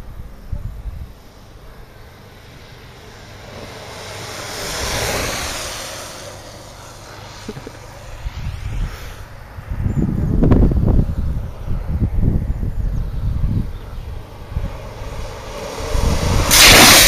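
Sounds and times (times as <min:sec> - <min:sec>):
longboard wheels rolling on asphalt: 0:00.0 - 0:17.0.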